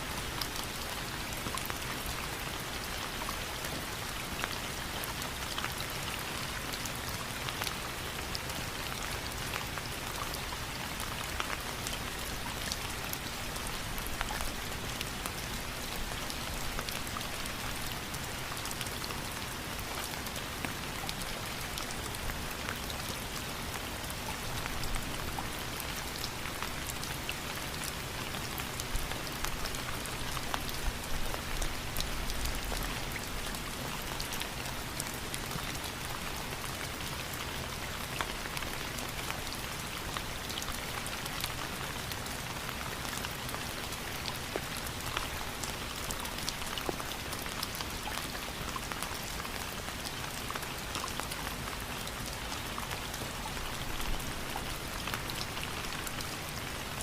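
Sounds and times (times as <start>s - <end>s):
steady rain on a surface: 0.0s - 57.0s.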